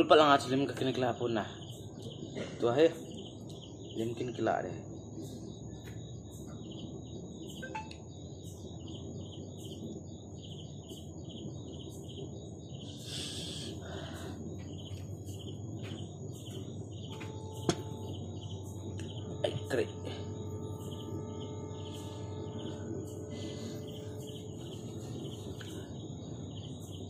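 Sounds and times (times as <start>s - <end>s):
rhythmic high chirping: 0.0s - 27.0s
steady high whine: 0.0s - 27.0s.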